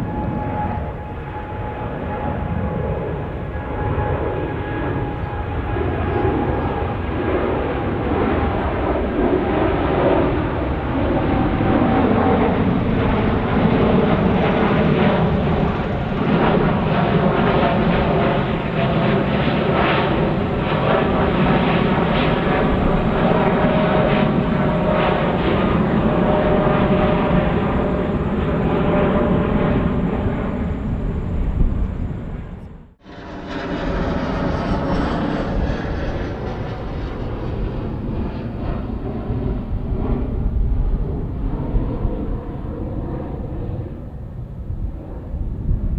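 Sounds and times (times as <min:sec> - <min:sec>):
jet engines at takeoff thrust: 0:00.0 - 0:45.9.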